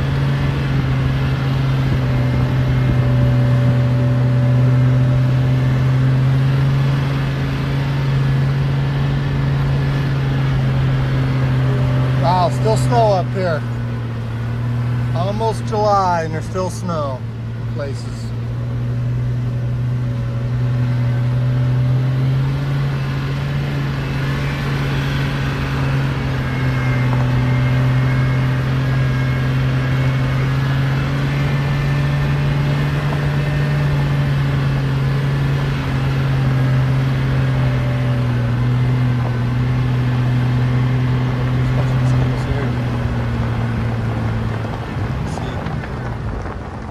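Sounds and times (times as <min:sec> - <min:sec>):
engine low drone: 0:00.0 - 0:46.9.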